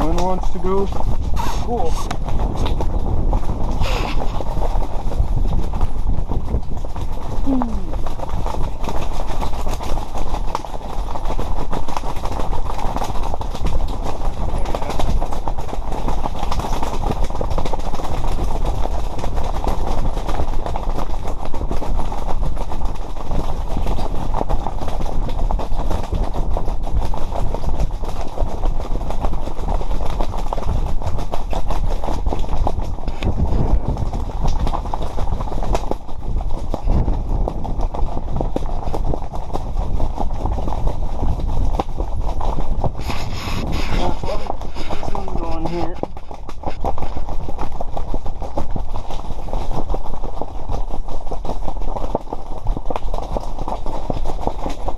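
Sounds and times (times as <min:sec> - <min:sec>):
heavy wind on microphone: 0:00.0 - 0:54.9.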